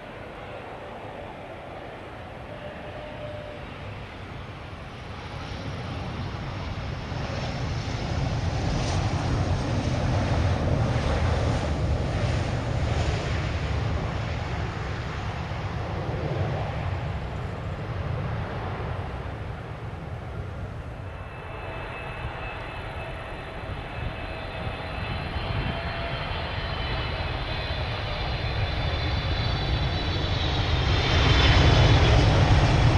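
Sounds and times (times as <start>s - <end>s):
jet aircraft rumble: 0.0s - 32.9s.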